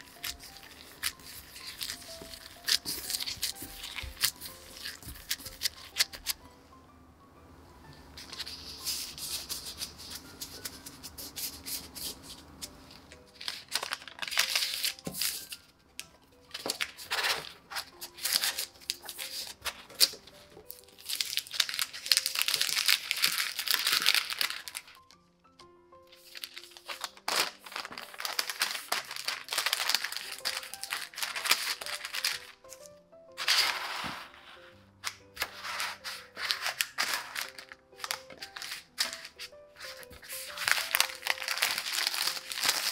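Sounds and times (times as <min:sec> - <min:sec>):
parchment paper crinkling: 0:00.0 - 0:06.4, 0:08.2 - 0:25.2, 0:26.1 - 0:42.9
quiet background music: 0:00.0 - 0:42.9.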